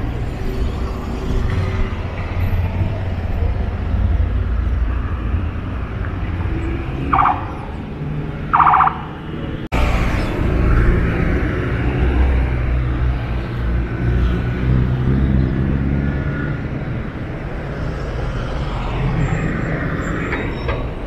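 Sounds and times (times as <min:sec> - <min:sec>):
cars passing with low rumble: 0:00.0 - 0:21.0.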